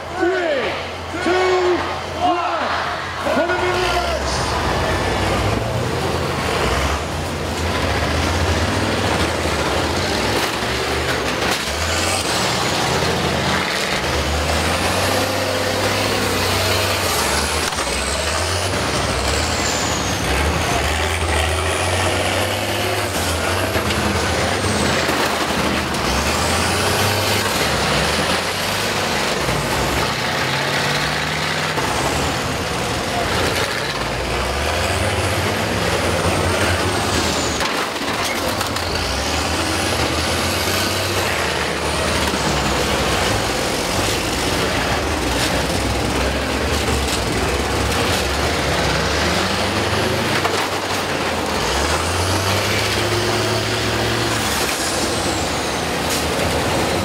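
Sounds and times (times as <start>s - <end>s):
bus engines revving: 0.0s - 57.0s.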